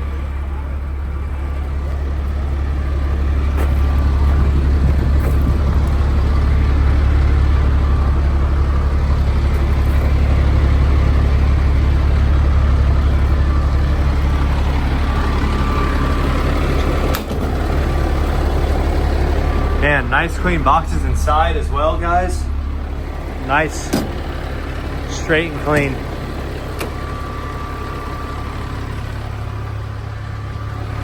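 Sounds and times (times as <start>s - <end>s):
truck diesel engine idling: 0.0s - 31.0s.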